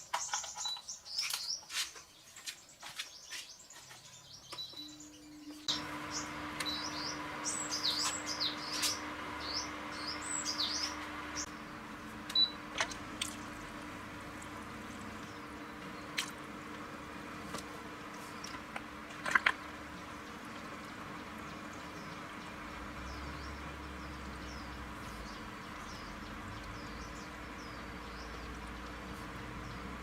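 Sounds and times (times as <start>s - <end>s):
small birds chirping: 0.0s - 30.0s
faint steady hum: 4.8s - 30.0s.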